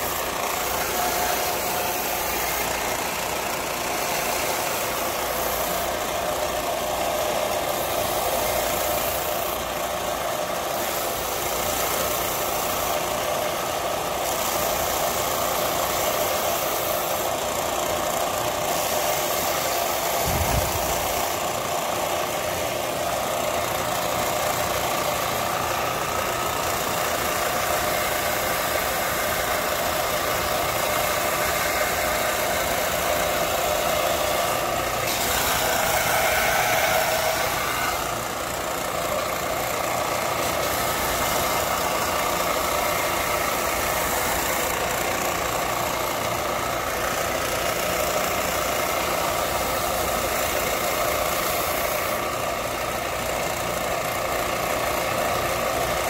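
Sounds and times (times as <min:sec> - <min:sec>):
power tool motor running: 0:00.0 - 0:56.0.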